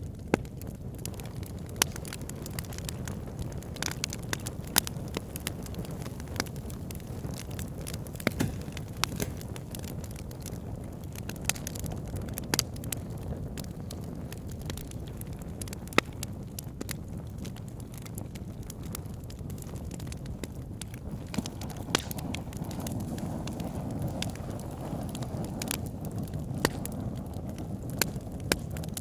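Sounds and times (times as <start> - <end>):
low rush of flame: 0.0 - 29.0
wood fire crackling and popping: 0.0 - 29.0.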